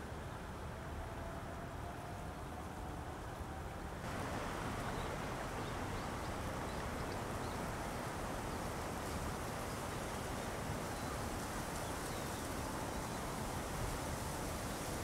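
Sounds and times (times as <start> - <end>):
wind through dry grass: 0.0 - 15.0.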